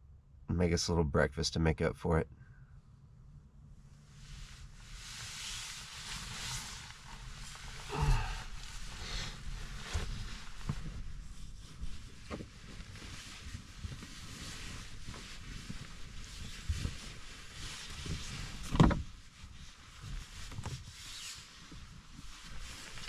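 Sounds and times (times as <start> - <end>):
blanket and clothing rustling: 4.2 - 23.0.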